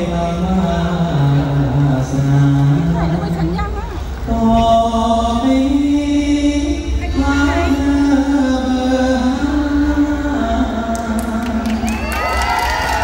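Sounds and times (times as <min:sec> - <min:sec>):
man singing into microphone: 0:00.0 - 0:03.5, 0:04.2 - 0:12.0.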